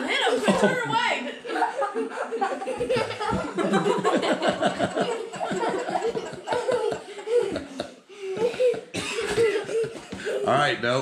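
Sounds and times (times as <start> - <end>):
laughter in bursts: 0.3 - 10.5.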